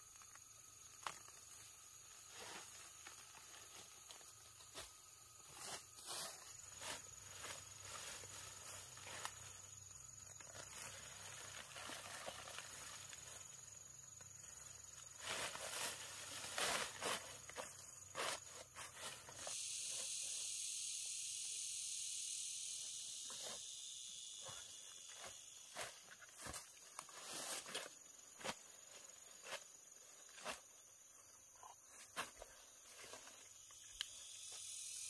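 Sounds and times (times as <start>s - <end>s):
high-pitched insect buzz: 0.0s - 35.0s.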